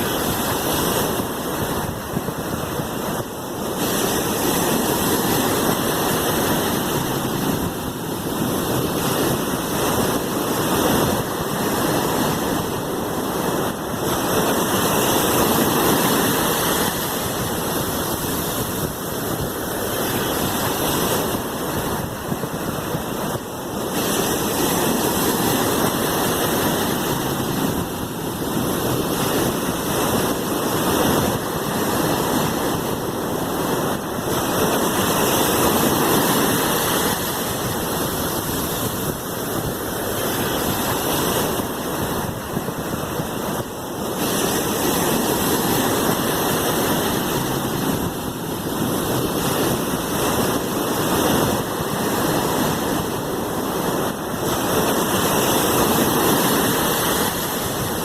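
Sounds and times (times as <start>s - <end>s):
sea waves washing: 0.0s - 58.0s.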